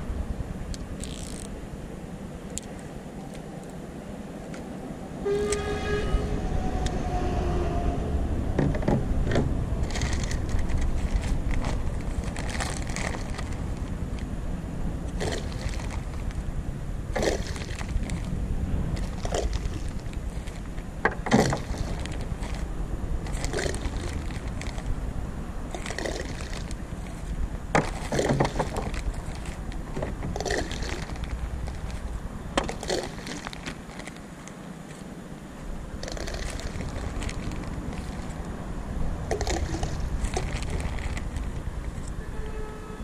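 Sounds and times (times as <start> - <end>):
steady low rumble: 0.0 - 42.3.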